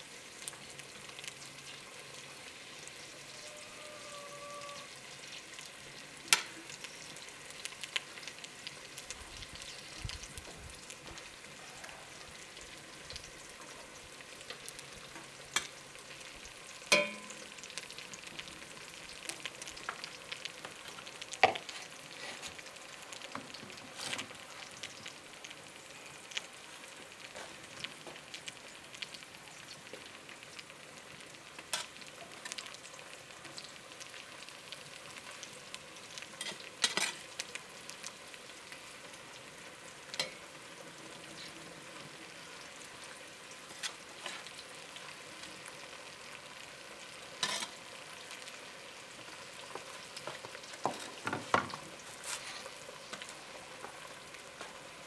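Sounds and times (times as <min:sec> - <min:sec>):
rice sizzling in a pot: 0:00.0 - 0:55.0.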